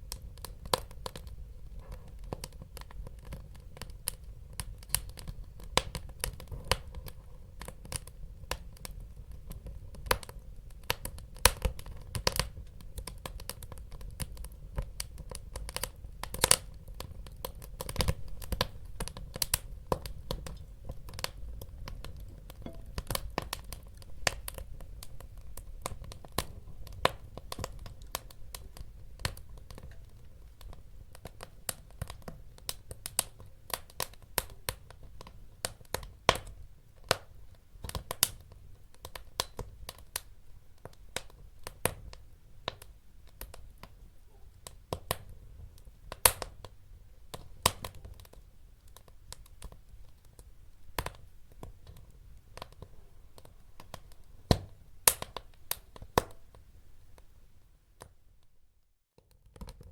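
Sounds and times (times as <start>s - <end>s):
wood fire crackling and popping: 0.0s - 57.3s, 59.2s - 59.9s.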